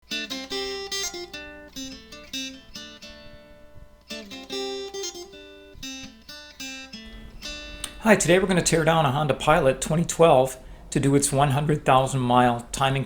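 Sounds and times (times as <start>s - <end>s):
acoustic guitar strummed chords: 0.0s - 12.9s.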